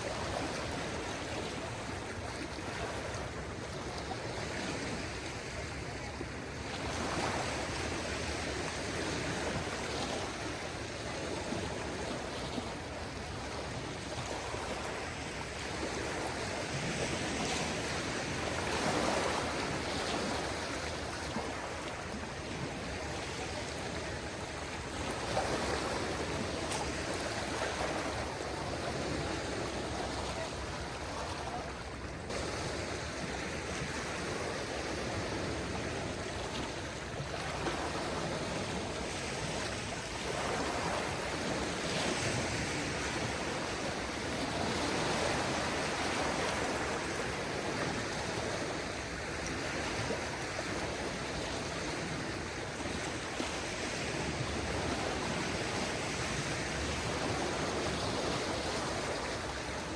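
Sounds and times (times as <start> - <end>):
small waves washing onto shore: 0.0 - 59.9.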